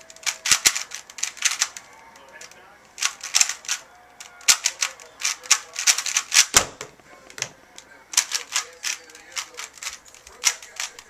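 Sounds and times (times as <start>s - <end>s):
hands slapping timer: 0.0s - 6.6s, 8.2s - 11.0s
plastic cube clicking: 0.0s - 7.5s, 8.2s - 11.0s.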